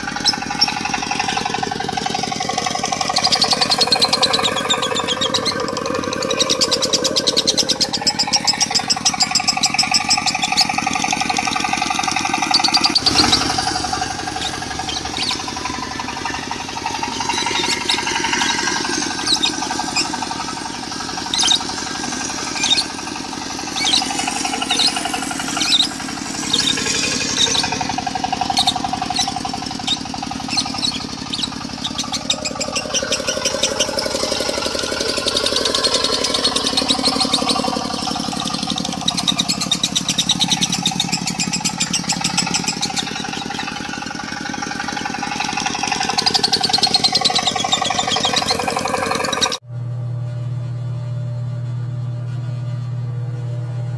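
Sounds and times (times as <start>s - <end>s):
lovebirds chattering and chirping: 0.0s - 49.6s
diesel engine knocking: 0.0s - 49.7s.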